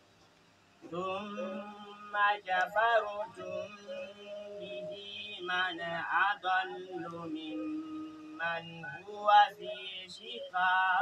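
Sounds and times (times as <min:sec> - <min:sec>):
man chanting melodically: 0:00.8 - 0:11.0.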